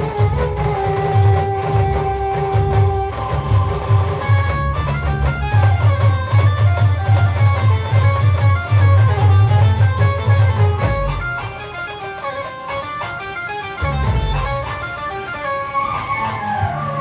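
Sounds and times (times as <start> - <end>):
instrumental band music: 0.0 - 17.0.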